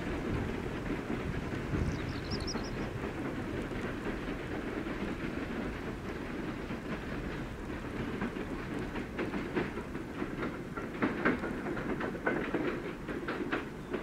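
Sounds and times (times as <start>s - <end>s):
train rumbling: 0.0s - 14.0s
wheels clattering on rails: 0.0s - 14.0s.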